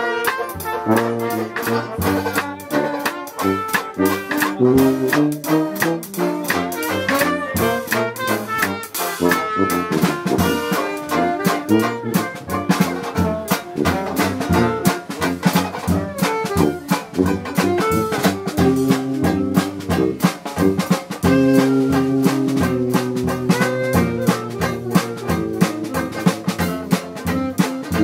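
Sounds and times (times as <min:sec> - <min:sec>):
banjo strumming: 0:00.0 - 0:28.0
jazz band playing: 0:00.0 - 0:28.0
trombone: 0:00.0 - 0:28.0
tuba: 0:00.0 - 0:28.0.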